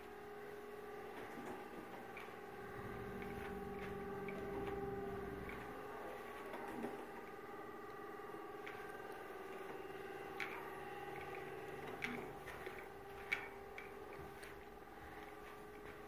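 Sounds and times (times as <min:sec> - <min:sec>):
machine hum with steady tones: 0:00.0 - 0:16.0.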